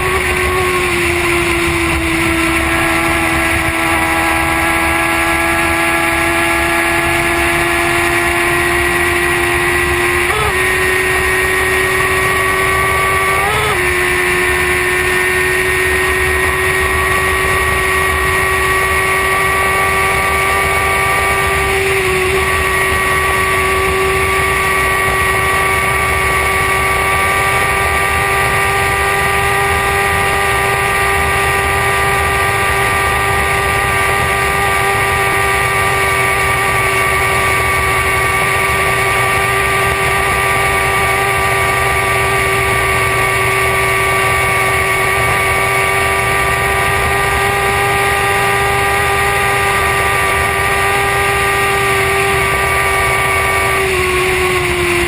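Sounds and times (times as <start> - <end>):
motorcycle engine whining at high revs: 0.0 - 55.0.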